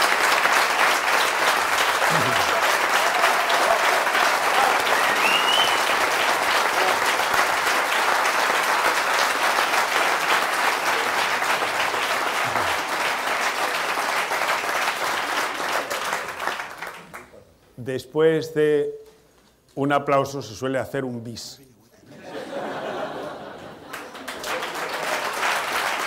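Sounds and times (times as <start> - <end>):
audience applauding: 0.0 - 17.4, 22.4 - 26.0.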